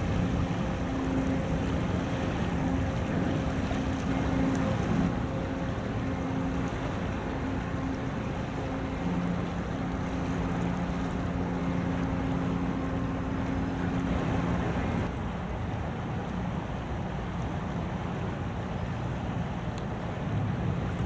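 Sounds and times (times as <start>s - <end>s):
low engine drone: 0.0s - 21.0s
water noise: 0.0s - 21.0s
wind: 0.0s - 21.0s.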